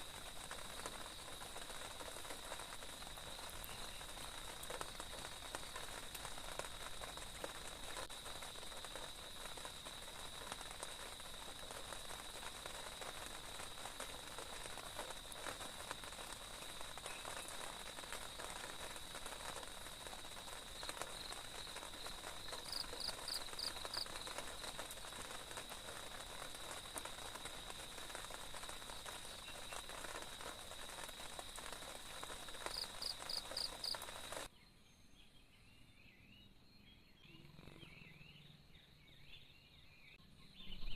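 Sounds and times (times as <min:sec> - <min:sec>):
steady rain falling: 0:00.0 - 0:34.5.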